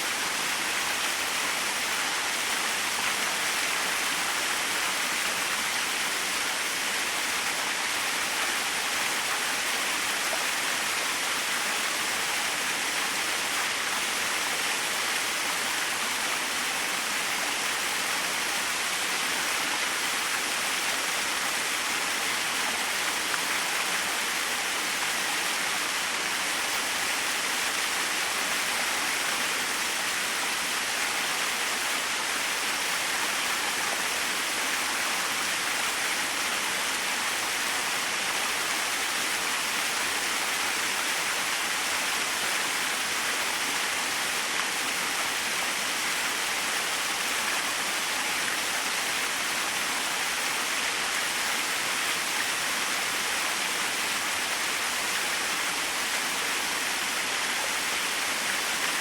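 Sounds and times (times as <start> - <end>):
small waterfall splashing: 0.0 - 59.0.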